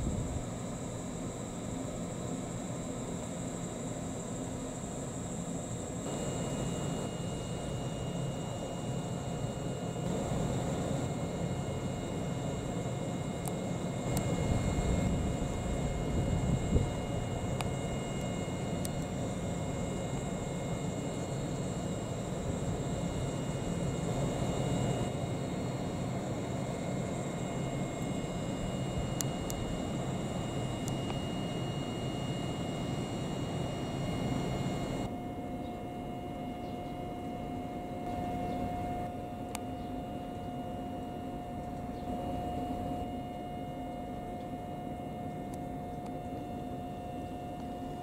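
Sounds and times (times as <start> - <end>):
electric train equipment drone: 0.0 - 48.0
faint high-pitched whines: 0.0 - 48.0.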